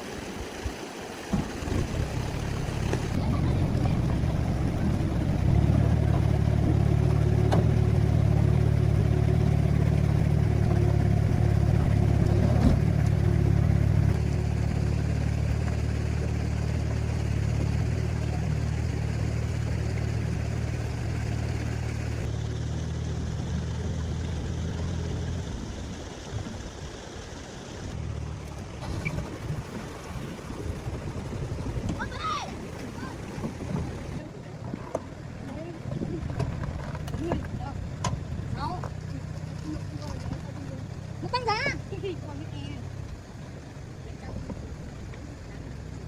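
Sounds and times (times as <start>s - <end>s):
engine humming: 0.0s - 46.0s.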